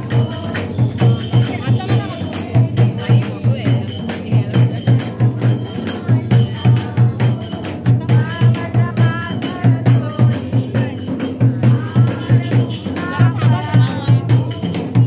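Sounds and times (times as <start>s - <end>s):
devotional singing: 0.0s - 15.0s
jingling tambourine: 0.0s - 15.0s
steady drum beat: 0.0s - 15.0s.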